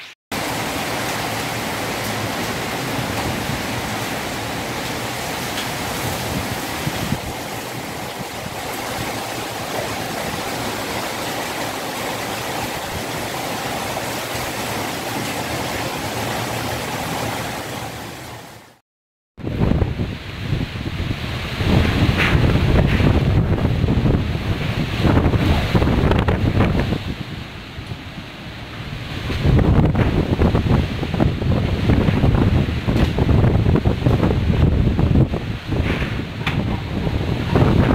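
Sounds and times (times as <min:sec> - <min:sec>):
heavy rain and wind: 0:00.0 - 0:18.8, 0:19.4 - 0:37.9.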